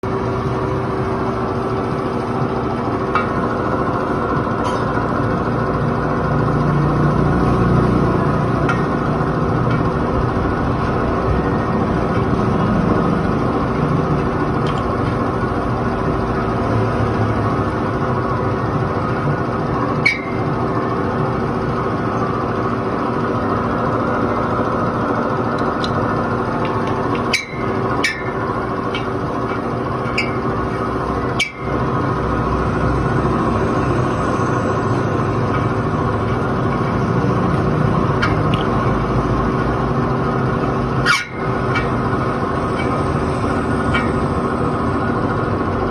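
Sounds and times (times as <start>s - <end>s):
loud machine drone: 0.0s - 45.9s.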